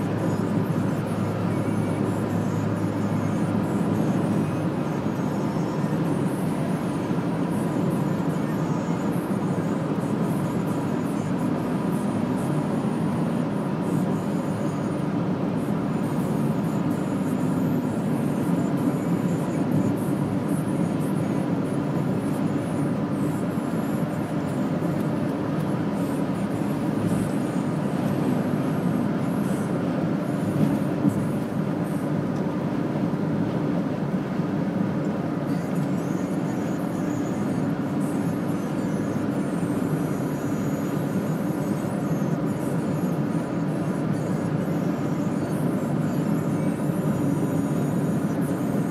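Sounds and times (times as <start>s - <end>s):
car engine and tyre drone: 0.0s - 48.9s.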